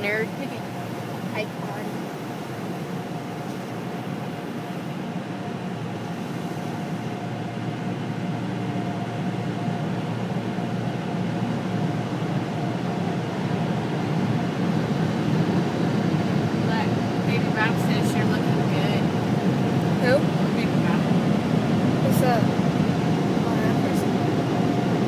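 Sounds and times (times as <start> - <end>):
car wash machinery rumbling: 0.0 - 25.0.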